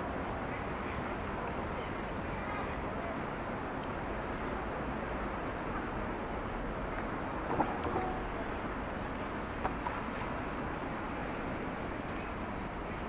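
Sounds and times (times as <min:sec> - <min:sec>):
city road car traffic: 0:00.0 - 0:13.0.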